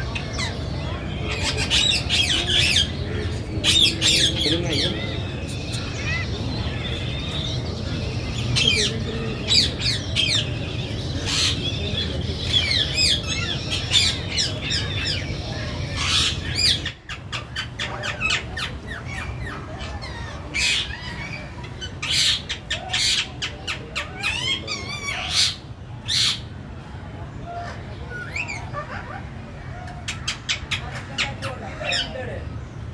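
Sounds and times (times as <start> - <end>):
birds chirping and squawking: 0.0 - 26.7, 27.4 - 32.9.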